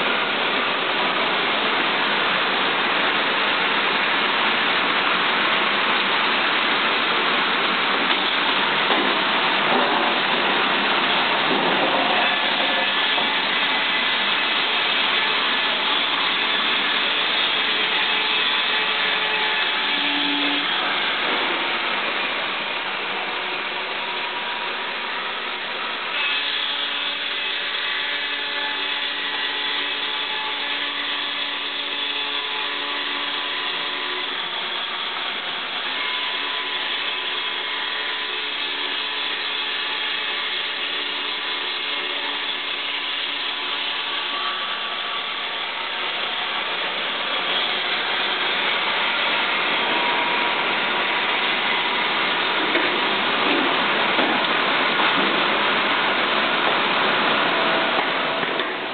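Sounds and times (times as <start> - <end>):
resaw running and sawing: 0.0 - 58.9.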